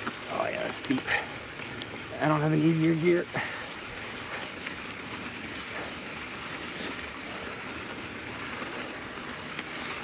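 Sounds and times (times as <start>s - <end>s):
mountain bike pedalled on dirt: 0.0s - 10.0s.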